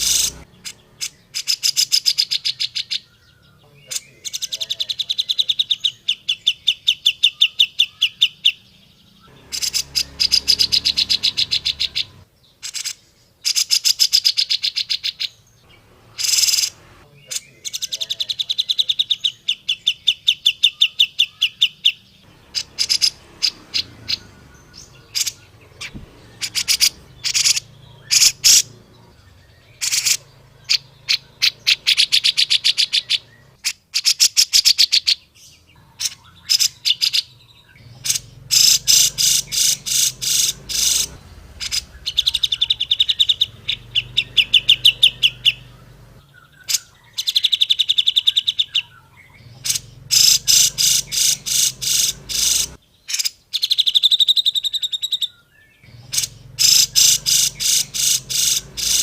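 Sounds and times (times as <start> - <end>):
bulbul chattering trills: 0.0 - 8.6, 9.2 - 59.0.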